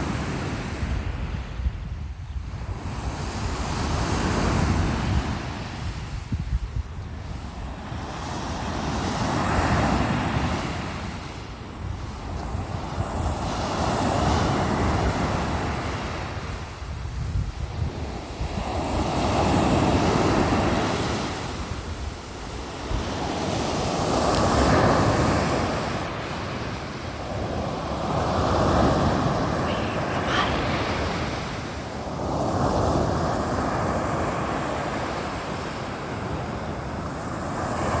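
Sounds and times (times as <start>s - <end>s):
wind rumbling on microphone: 0.0s - 38.0s
sea waves breaking on shore: 7.2s - 38.0s.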